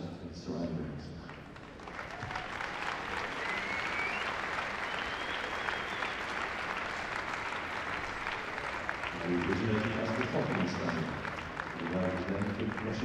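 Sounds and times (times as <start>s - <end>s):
audience applauding: 1.3s - 13.0s.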